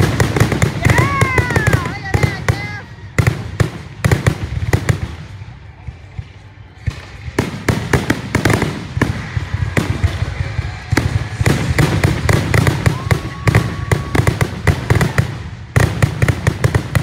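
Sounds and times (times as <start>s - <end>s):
fireworks bursts and bangs: 0.0s - 17.0s.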